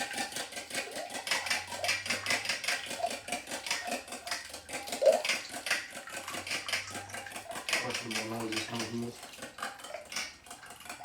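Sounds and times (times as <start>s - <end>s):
whisk clicking against bowl: 0.0s - 11.0s.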